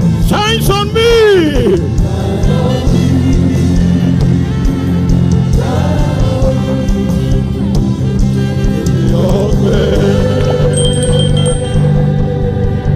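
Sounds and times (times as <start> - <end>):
gospel band playing: 0.0 - 12.9.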